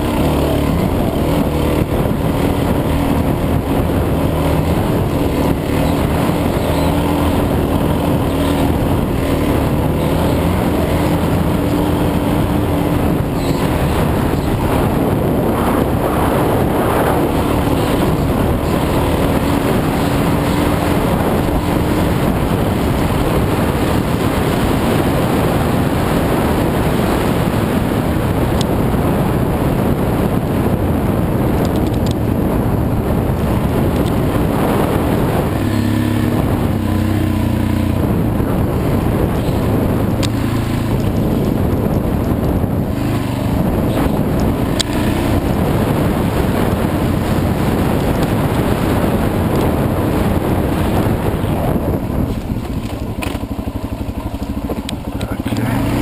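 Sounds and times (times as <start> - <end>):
dirt bike engine revving: 0.0 - 56.0
wind rushing over microphone: 0.0 - 56.0.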